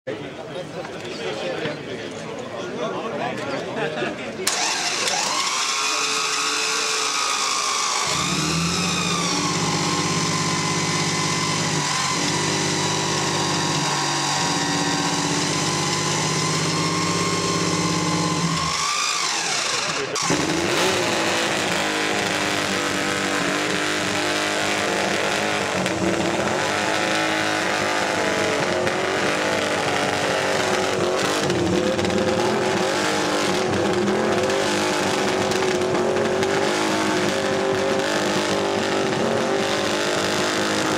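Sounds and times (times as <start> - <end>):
roller starter whine: 4.4 - 40.9
motorcycle engine revving: 4.5 - 40.9.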